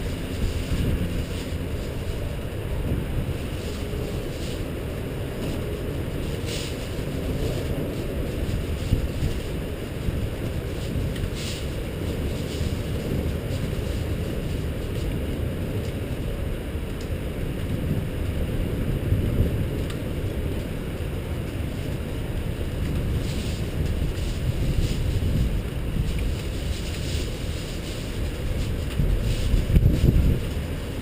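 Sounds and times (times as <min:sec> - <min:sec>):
faint crackles: 0:00.0 - 0:31.0
wind buffeting microphone: 0:00.0 - 0:31.0.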